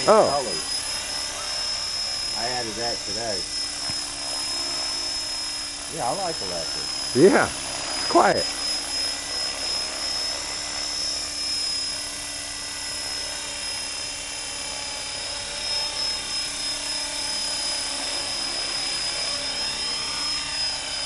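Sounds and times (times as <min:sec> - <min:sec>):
high-pitched motor whine: 0:00.0 - 0:21.0
spinning rotor blades: 0:00.0 - 0:21.0.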